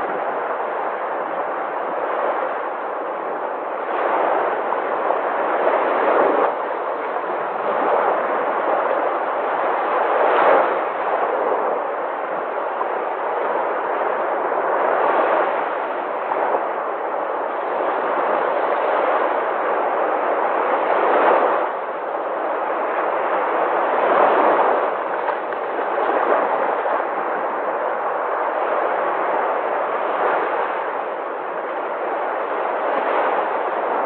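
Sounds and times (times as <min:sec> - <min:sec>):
sea waves breaking: 0:00.0 - 0:34.0.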